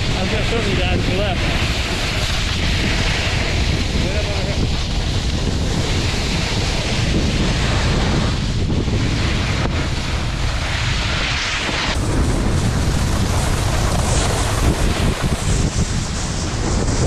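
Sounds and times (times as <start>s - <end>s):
snowboard scraping over snow: 0.0s - 17.0s
wind buffeting microphone: 0.0s - 17.0s.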